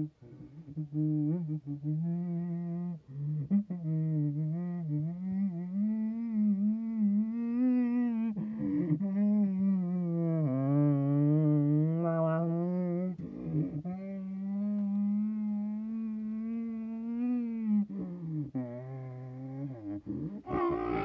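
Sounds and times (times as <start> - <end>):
person humming: 0.0 - 21.0.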